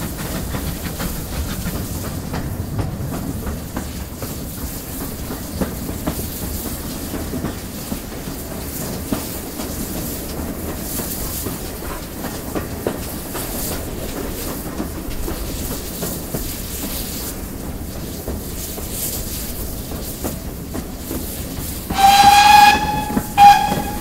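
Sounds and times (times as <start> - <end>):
wheels clicking over rail joints: 0.0 - 17.3, 18.0 - 24.0
high steam hiss: 0.0 - 24.0
train wheels rumbling: 0.0 - 24.0.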